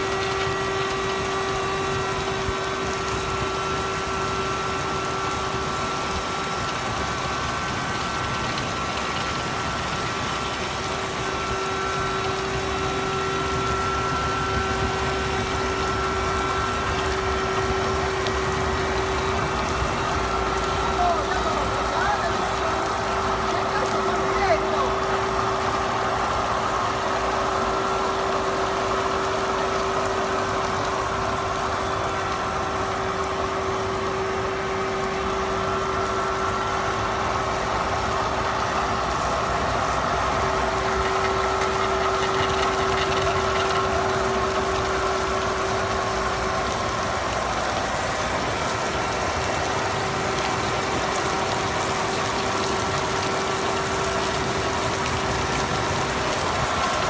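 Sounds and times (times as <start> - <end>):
concrete-cutting machinery humming: 0.0 - 57.0.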